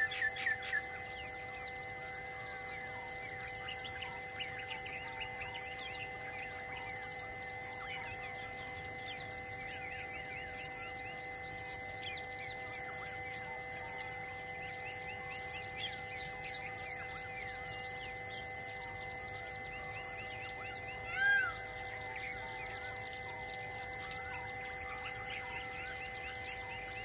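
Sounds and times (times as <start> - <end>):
high pulsing call: 0.0 - 27.0
insect drone: 0.0 - 27.0
small birds chirping: 0.0 - 27.0.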